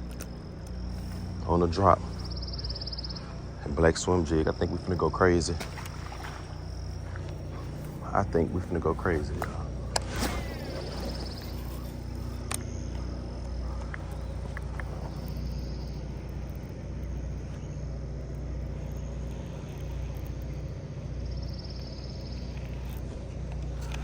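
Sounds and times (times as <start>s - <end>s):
insects buzzing: 0.0s - 24.0s
steady low hum: 0.0s - 24.0s.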